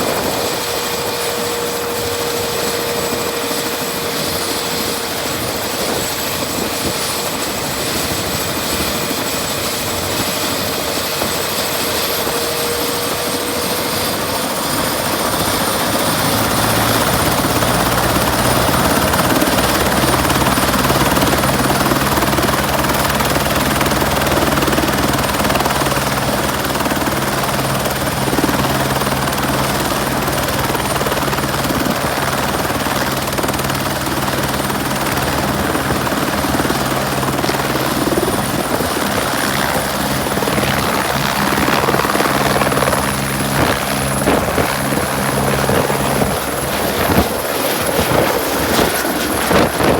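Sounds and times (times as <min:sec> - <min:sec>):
helicopter engine whining: 0:00.0 - 0:49.9.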